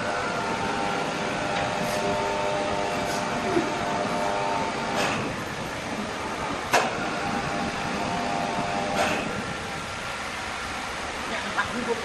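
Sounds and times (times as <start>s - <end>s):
machinery running: 0.0s - 12.0s.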